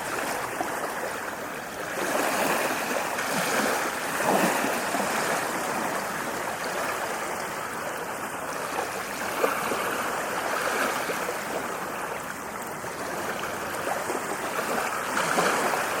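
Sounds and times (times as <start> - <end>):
ocean waves washing on shore: 0.0 - 16.0.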